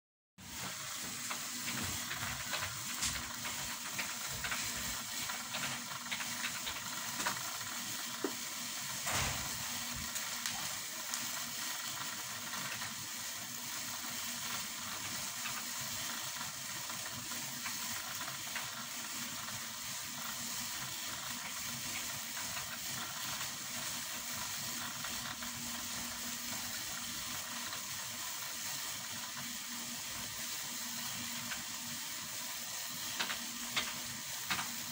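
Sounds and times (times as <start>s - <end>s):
steady hiss: 0.4s - 34.9s.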